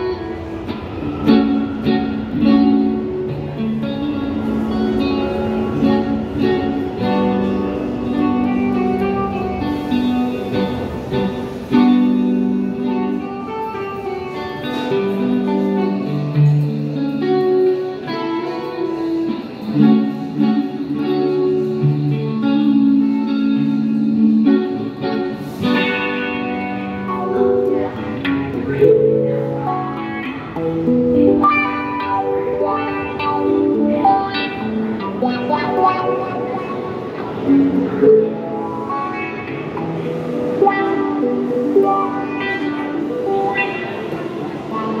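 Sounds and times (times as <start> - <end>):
electric guitar lead melody: 0.0 - 45.0.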